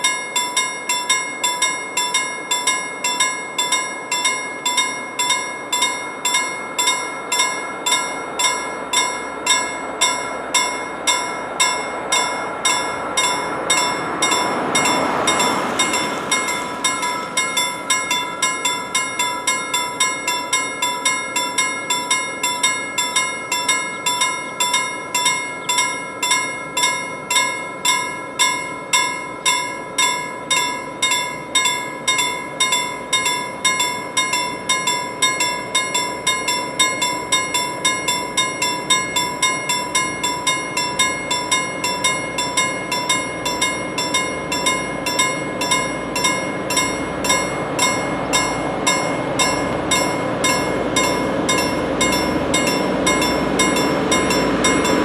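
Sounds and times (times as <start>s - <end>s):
level crossing bell ringing: 0.0s - 55.0s.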